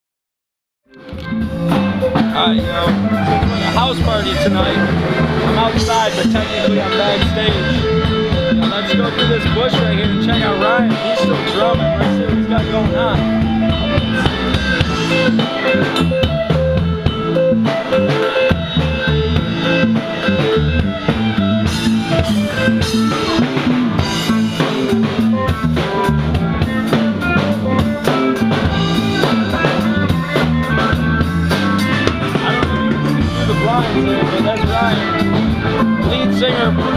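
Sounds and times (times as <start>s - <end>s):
electric guitar: 0.9s - 36.9s
drum kit with rimshots: 1.0s - 36.9s.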